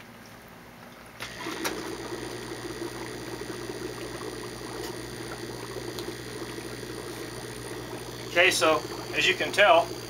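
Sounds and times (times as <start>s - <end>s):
air pump humming: 1.2s - 10.0s
air bubbling in water: 1.3s - 10.0s.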